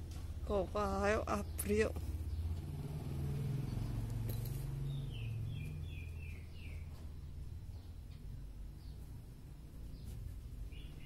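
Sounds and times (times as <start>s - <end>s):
small bird chirping: 0.5s - 11.0s.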